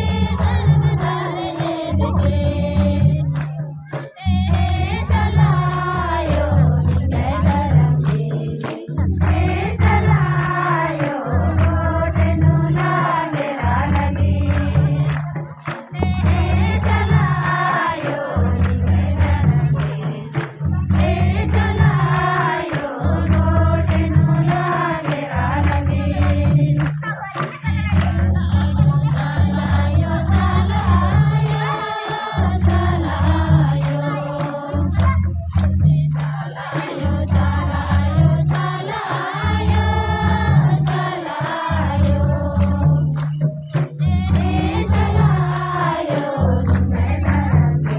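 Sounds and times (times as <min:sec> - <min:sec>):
group singing devotional song: 0:00.0 - 0:47.9
heavy drum beat: 0:00.0 - 0:47.9
jingling percussion: 0:00.0 - 0:47.9.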